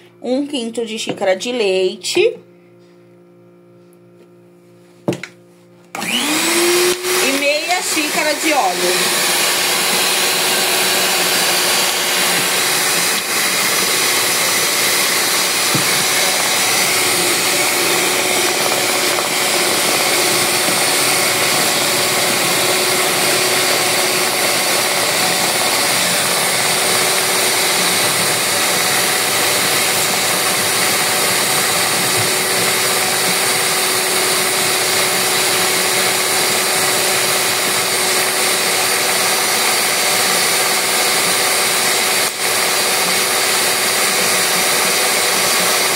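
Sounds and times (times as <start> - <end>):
stand mixer whisking batter: 5.9 - 45.9.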